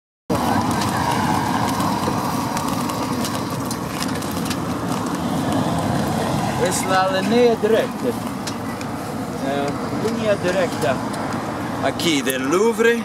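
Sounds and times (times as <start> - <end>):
pedicab rattling over cobblestones: 0.3 - 13.0.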